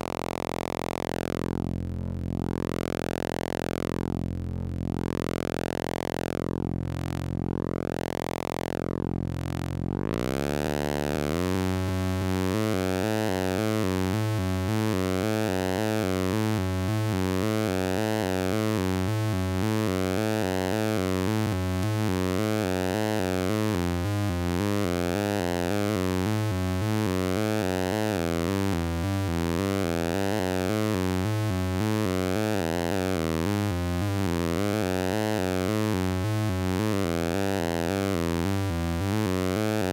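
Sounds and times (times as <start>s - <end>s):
synthesizer bass with filter sweeps: 0.0s - 39.9s.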